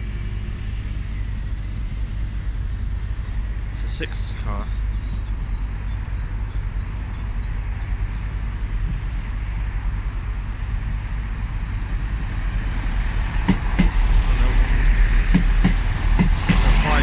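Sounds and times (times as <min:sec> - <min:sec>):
diesel trains idling: 0:00.0 - 0:17.0.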